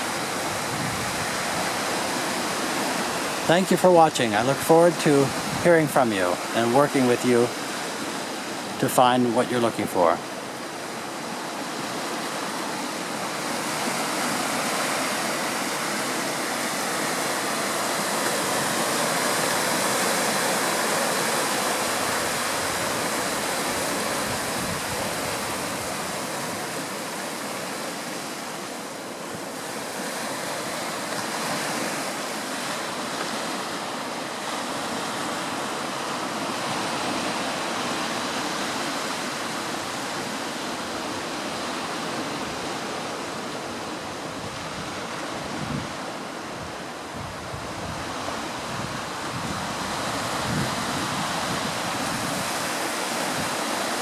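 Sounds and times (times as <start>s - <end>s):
surf washing onto shore: 0.0s - 54.0s.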